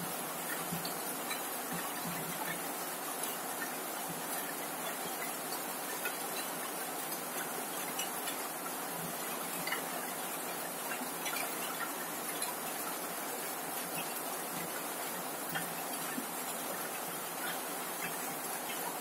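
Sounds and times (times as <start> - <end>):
rain on a metal roof: 0.0 - 19.0.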